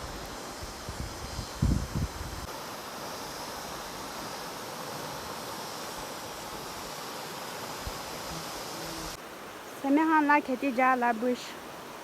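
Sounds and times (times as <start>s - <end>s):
outdoor rushing hiss: 0.0s - 12.0s.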